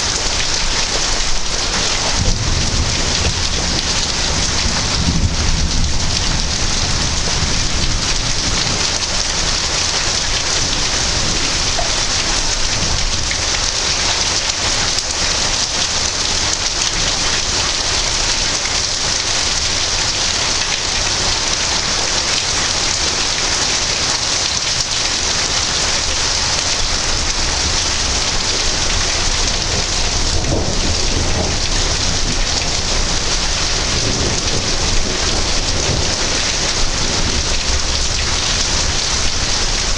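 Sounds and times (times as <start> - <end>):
heavy rain: 0.0 - 39.9
low thunder rumbling: 0.0 - 39.9.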